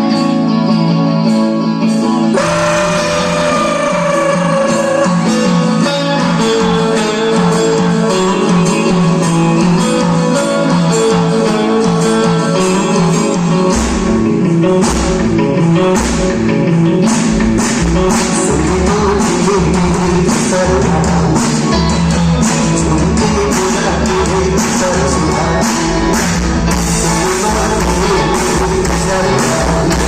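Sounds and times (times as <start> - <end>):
electric guitar: 0.0 - 30.0
live rock band playing: 0.0 - 30.0
steady drum beat: 2.3 - 30.0.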